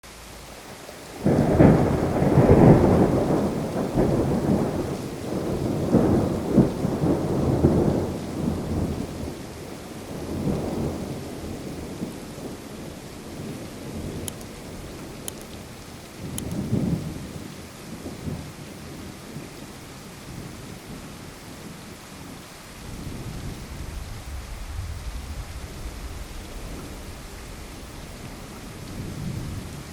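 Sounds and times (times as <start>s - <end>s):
steady rain: 0.0s - 29.9s
thunder rumbling: 0.3s - 29.9s.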